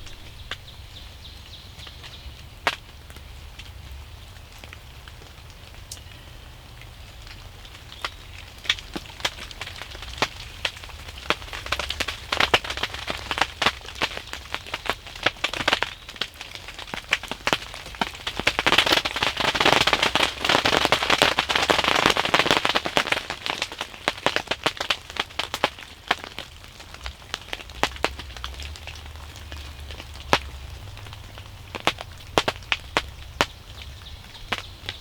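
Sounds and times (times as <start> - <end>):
raindrops ticking on a surface: 0.0 - 35.0.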